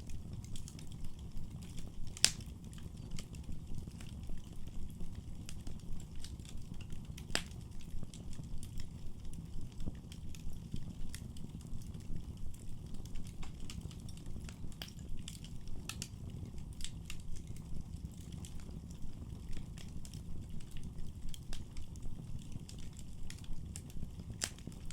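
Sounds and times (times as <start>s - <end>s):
low rumble of flames: 0.0s - 24.9s
wood fire crackling and popping: 0.0s - 24.9s.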